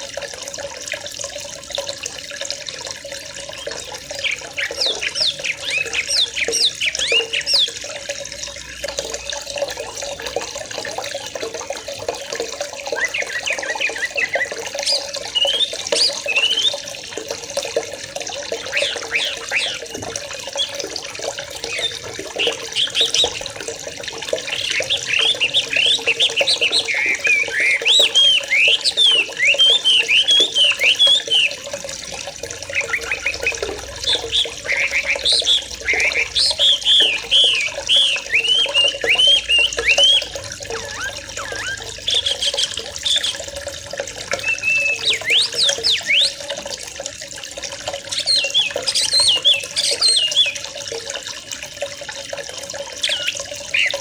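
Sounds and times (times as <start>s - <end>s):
water rushing: 0.0s - 54.0s
birds chattering: 3.3s - 46.8s, 47.6s - 51.3s, 52.8s - 54.0s.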